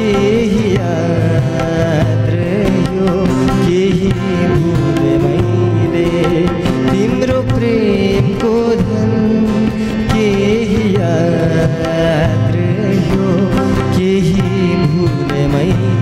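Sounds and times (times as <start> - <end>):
harmonium chords: 0.0 - 16.0
man singing: 0.0 - 16.0
tabla beat: 0.0 - 16.0.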